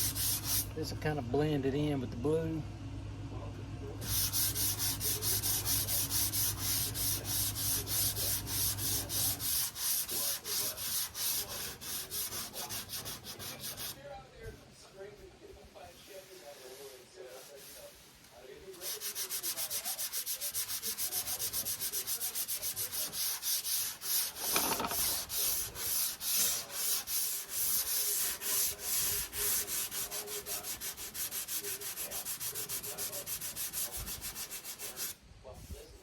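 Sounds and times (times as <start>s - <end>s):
hand sanding with sandpaper: 0.0s - 0.7s, 4.0s - 14.0s, 16.0s - 18.1s, 18.7s - 35.8s.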